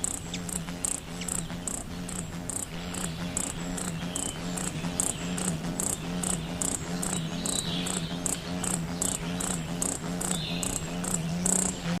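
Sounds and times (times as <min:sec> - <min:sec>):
high-pitched chirps: 0:00.0 - 0:12.0
steady low hum: 0:00.0 - 0:12.0.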